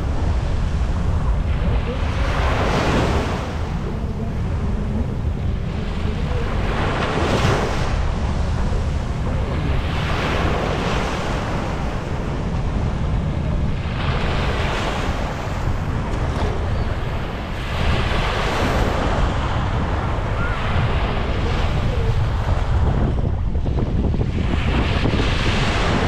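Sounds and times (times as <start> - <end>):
sea waves breaking: 0.0 - 26.0
wind buffeting microphone: 0.0 - 26.0.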